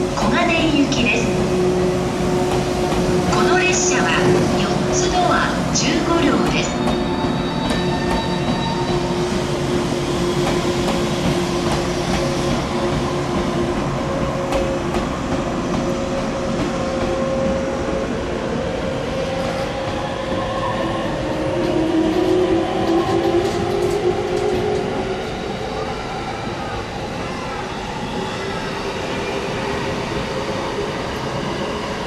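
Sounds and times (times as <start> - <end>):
electric train rumbling on rails: 0.0 - 32.0.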